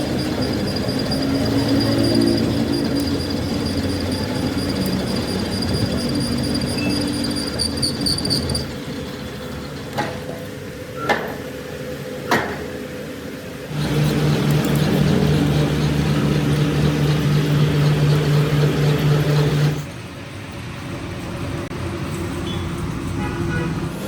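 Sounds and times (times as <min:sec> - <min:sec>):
workshop machinery whining: 0:00.0 - 0:20.2.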